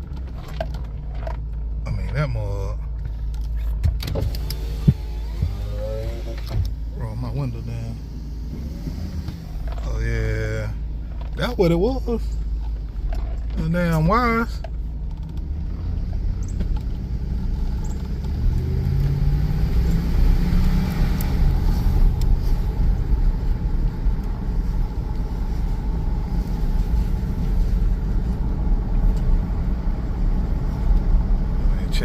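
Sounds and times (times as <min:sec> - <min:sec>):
engine and road rumble: 0:00.0 - 0:32.0.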